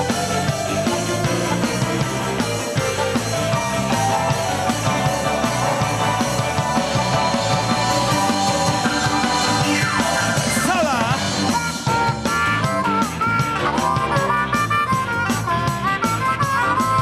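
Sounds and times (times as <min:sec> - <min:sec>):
bass guitar: 0:00.0 - 0:17.0
drums: 0:00.0 - 0:17.0
electric guitar: 0:00.0 - 0:17.0
keyboards: 0:00.0 - 0:17.0
sliding guitar lead with vibrato: 0:00.0 - 0:17.0.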